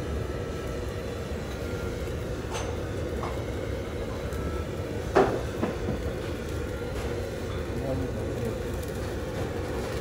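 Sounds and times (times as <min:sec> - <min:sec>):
kitchen background rumble: 0:00.0 - 0:10.0.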